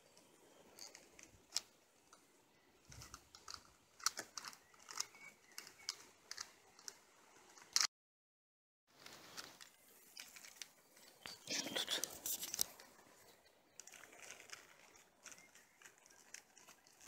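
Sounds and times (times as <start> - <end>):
rustling and crinkling: 0.0 - 7.9, 8.9 - 17.0.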